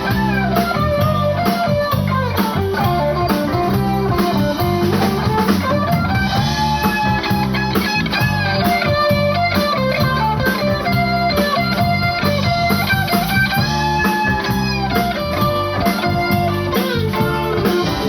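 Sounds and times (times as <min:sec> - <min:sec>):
bass: 0:00.0 - 0:18.0
drum kit: 0:00.0 - 0:18.0
electric guitar lines: 0:00.0 - 0:18.0.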